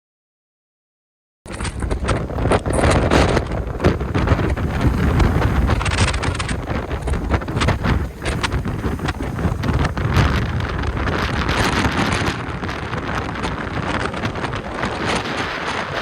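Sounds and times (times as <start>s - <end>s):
strong wind buffeting microphone: 1.5s - 16.0s.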